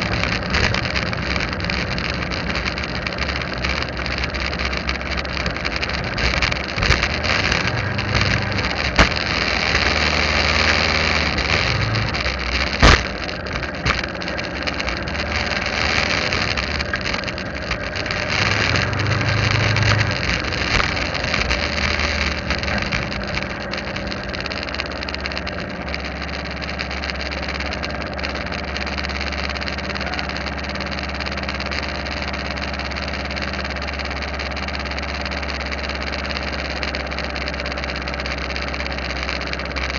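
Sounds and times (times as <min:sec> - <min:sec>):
motorcycle engine running: 0:00.0 - 0:39.9
sharp clicks: 0:00.0 - 0:39.9
wind and road noise: 0:00.0 - 0:39.9.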